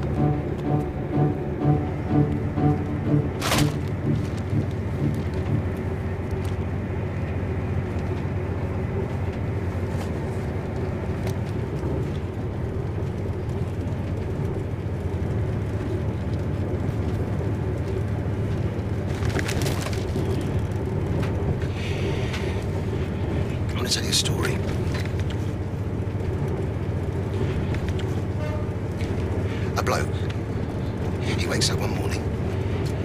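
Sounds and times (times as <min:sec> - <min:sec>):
train low rumble: 0:00.0 - 0:33.0.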